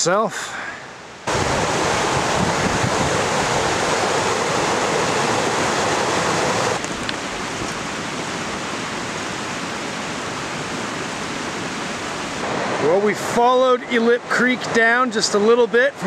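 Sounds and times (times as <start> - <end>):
creek water rushing over boulders: 1.3 - 16.0.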